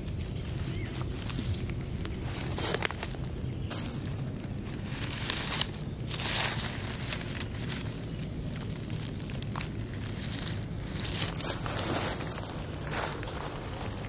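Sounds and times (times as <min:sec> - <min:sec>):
dry leaves crackling: 0:00.0 - 0:14.0.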